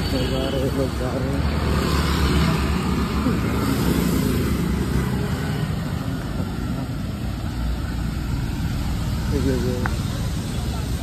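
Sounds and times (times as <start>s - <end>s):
scooters and motorcycles passing: 0.0s - 11.0s.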